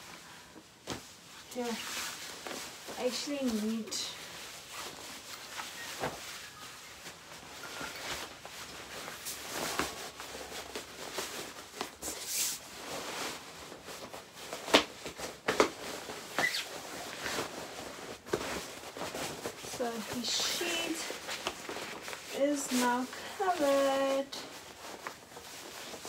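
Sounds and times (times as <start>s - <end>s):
fabric rustling: 0.0s - 26.0s.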